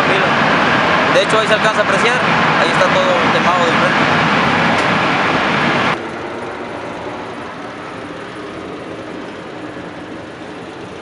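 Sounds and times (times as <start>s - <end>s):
road traffic noise: 0.0s - 11.0s
steady background hum: 0.0s - 11.0s.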